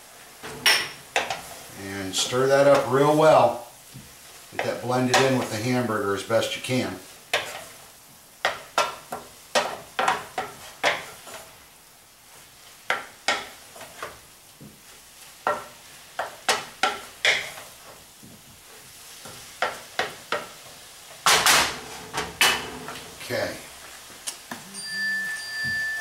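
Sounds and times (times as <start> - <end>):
faint sizzle from hot pan: 0.0 - 26.0
wooden spoon scraping a skillet: 0.2 - 11.6, 12.2 - 24.2.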